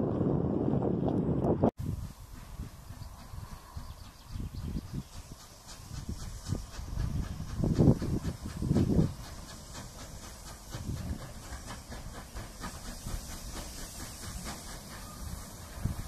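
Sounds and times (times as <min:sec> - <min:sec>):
hiss of steam: 0:01.8 - 0:16.0
steam locomotive exhaust beats: 0:01.8 - 0:16.0.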